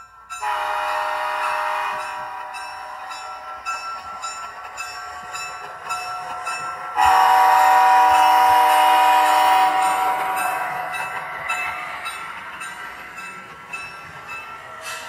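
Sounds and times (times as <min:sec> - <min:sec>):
rhythmic clicking of model train: 0:00.0 - 0:15.0.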